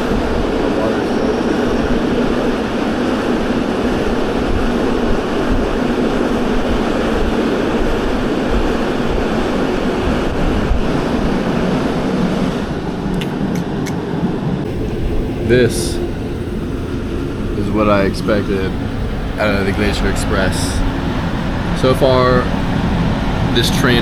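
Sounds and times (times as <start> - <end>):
passenger train rumbling: 0.0 - 24.0.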